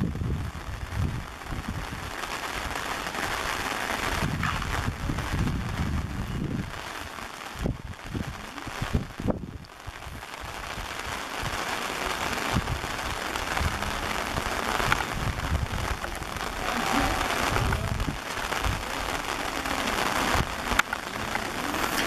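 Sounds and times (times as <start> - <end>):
rain falling on pavement: 0.0 - 22.0.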